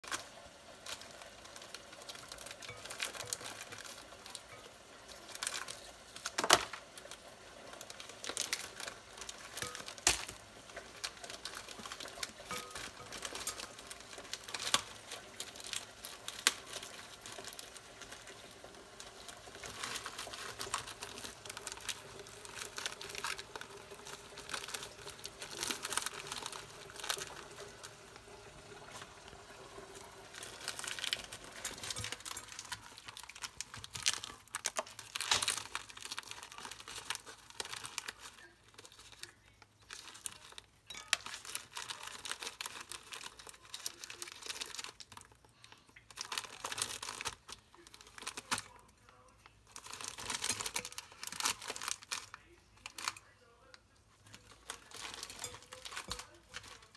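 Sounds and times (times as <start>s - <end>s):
plastic wrappers crinkling: 0.0s - 56.9s.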